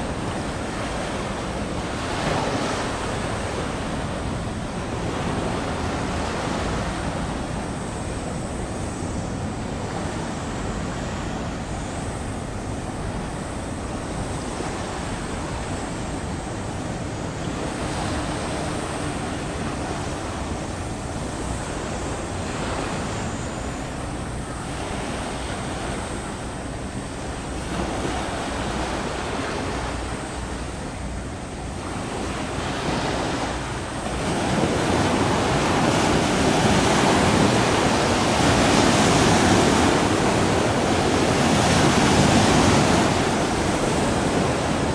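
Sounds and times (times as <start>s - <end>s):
wind on microphone: 0.0s - 44.9s.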